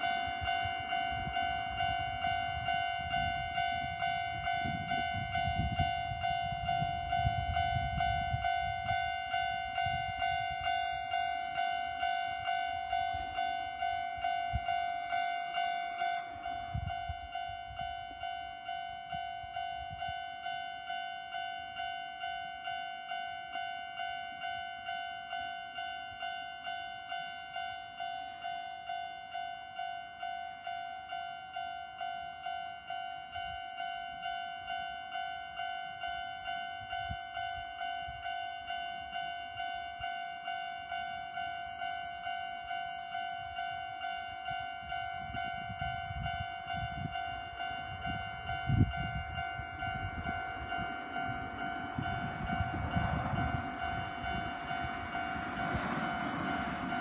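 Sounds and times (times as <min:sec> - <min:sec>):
level crossing bell ringing: 0:00.0 - 0:57.0.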